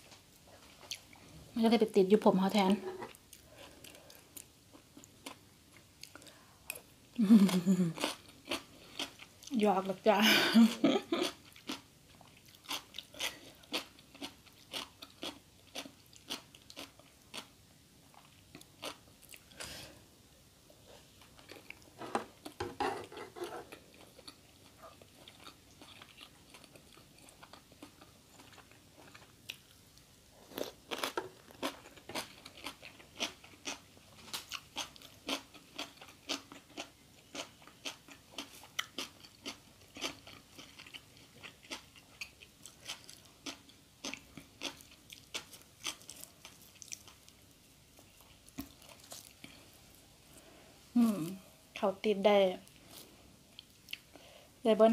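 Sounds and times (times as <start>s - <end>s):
person chewing and crunching food: 3.0s - 9.6s, 10.7s - 19.6s, 21.2s - 51.4s, 52.6s - 54.2s.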